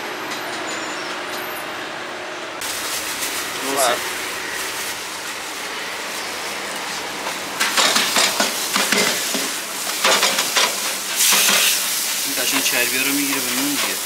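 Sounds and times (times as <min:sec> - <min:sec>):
meat sizzling on griddle: 0:02.6 - 0:14.0.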